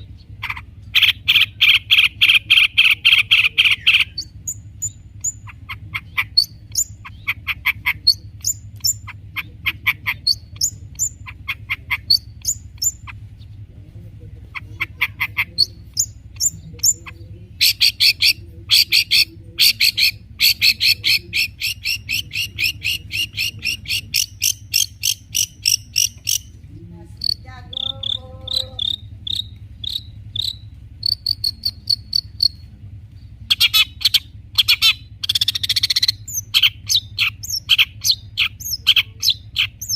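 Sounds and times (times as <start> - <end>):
shrike singing: 0.0 - 39.9
steady low hum: 0.0 - 39.9.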